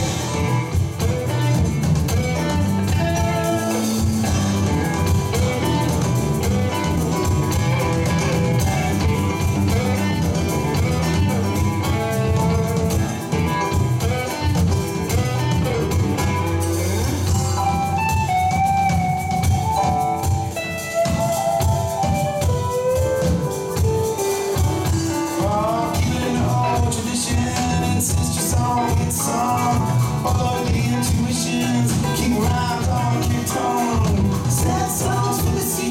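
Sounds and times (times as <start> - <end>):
drum kit: 0.0 - 35.9
electric bass: 0.0 - 35.9
electric guitar: 0.0 - 35.9
keyboard: 0.0 - 35.9
sliding lead notes: 0.0 - 35.9.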